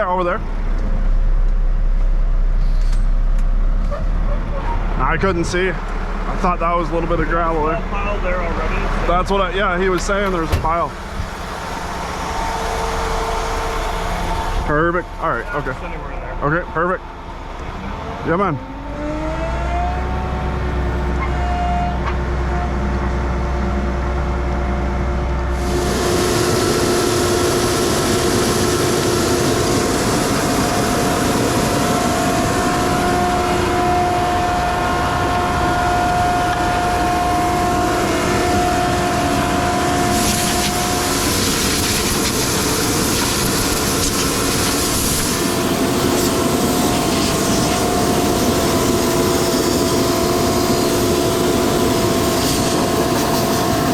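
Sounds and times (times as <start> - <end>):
truck engine whine: 0.0 - 53.9.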